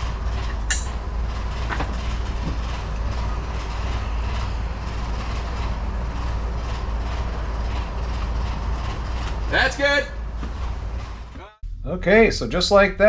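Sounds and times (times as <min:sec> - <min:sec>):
forklift engine running: 0:00.0 - 0:11.6.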